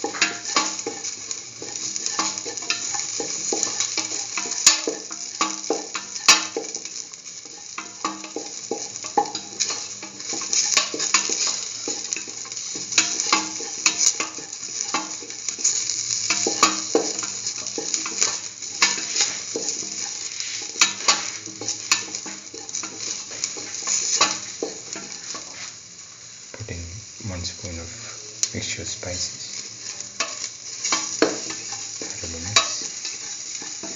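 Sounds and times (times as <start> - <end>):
spatula scraping a pan: 0.0 - 25.8, 29.5 - 33.9
vegetables sizzling in oil: 0.0 - 33.9.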